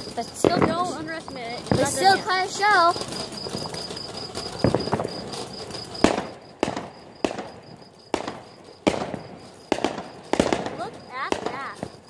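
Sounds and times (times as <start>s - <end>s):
cricket chirping: 0.0s - 12.0s
firework fountain hissing crackle: 0.0s - 12.0s
sharp firework bangs: 0.0s - 12.0s.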